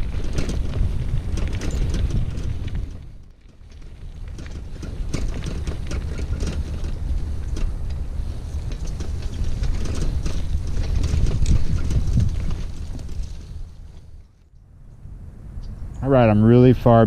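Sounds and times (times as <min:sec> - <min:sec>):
crackles and clicks: 0:00.0 - 0:14.6
wind rumbling on microphone: 0:00.0 - 0:17.0.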